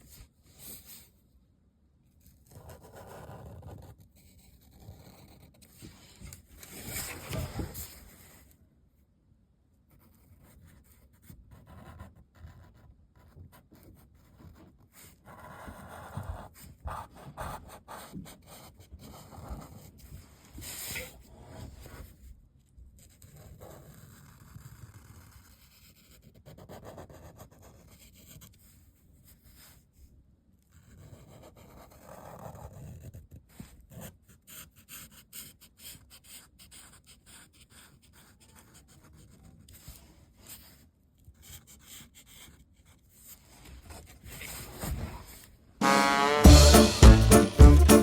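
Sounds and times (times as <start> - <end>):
drawing tool scratching on paper: 2.2 - 8.0, 9.9 - 22.2, 23.0 - 29.8, 30.7 - 44.7.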